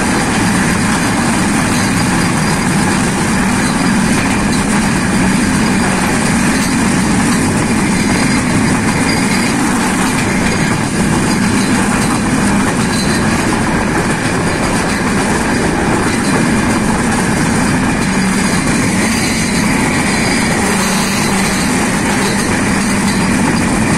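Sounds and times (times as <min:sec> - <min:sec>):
train wheels rumbling on track: 0:00.0 - 0:23.9.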